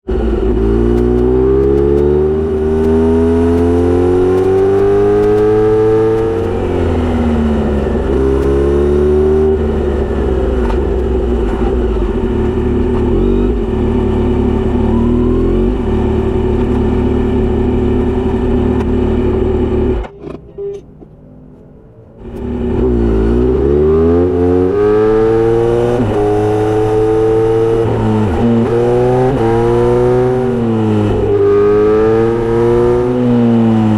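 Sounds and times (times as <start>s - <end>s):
motorcycle engine revving: 0.1s - 20.1s, 22.2s - 33.9s.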